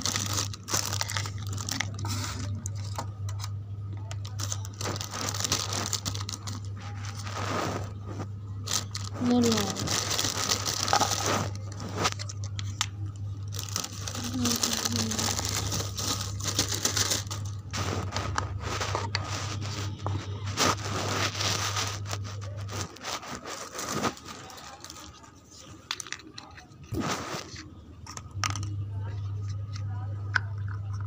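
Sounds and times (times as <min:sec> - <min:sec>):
crinkling scraping handling noise: 0:00.0 - 0:31.0
low steady hum: 0:00.0 - 0:31.0.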